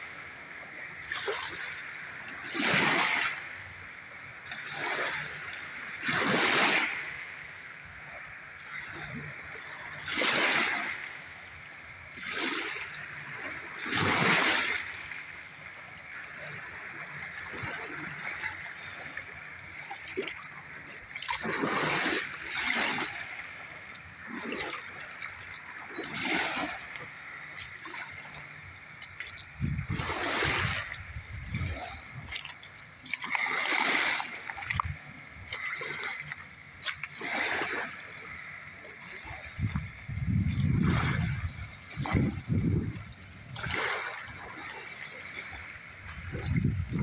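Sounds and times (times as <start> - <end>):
waves washing onto pebbles: 0.0 - 47.0.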